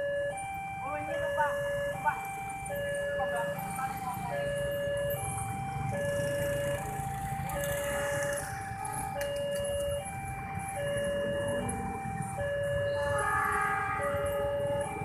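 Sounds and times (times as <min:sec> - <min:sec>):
level crossing two-tone alarm: 0:00.0 - 0:15.0
motorcycle engines rumbling: 0:00.6 - 0:15.0.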